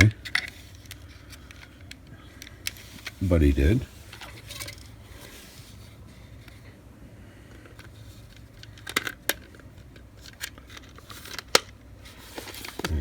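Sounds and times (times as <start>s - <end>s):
steady low hum: 0.0s - 10.2s, 11.8s - 13.0s.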